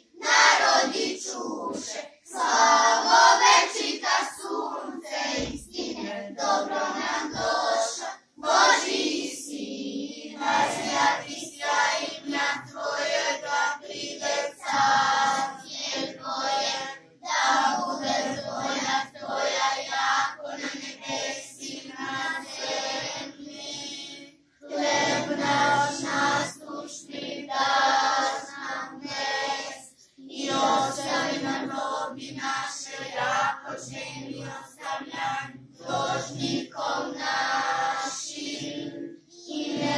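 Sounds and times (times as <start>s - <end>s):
children and women singing: 0.0s - 39.9s.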